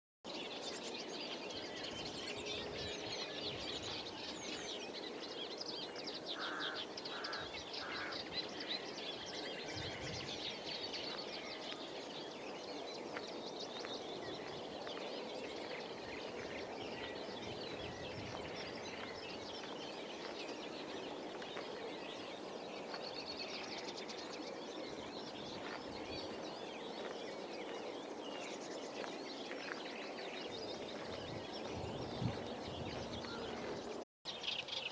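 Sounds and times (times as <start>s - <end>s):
birds chirping and trilling: 0.3s - 34.9s.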